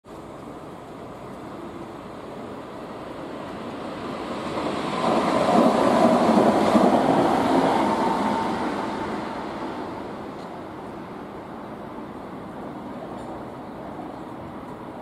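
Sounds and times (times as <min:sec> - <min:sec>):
train rumbling past: 0:00.1 - 0:15.0.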